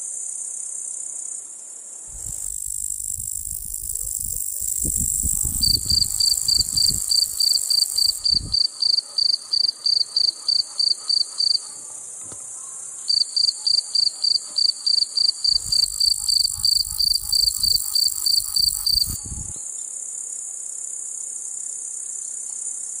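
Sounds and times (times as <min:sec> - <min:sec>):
steady high hiss: 0:00.0 - 0:22.4
cricket chirping: 0:00.0 - 0:23.0.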